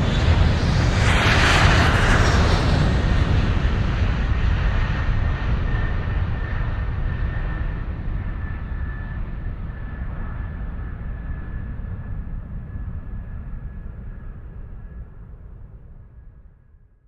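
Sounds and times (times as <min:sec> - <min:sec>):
airplane engine rushing: 0:00.0 - 0:16.1.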